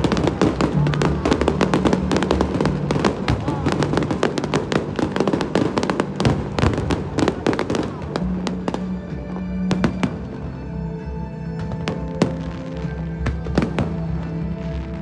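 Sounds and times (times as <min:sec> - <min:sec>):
fireworks bursting and crackling: 0:00.0 - 0:10.6, 0:11.6 - 0:15.0
music playing: 0:00.0 - 0:15.0.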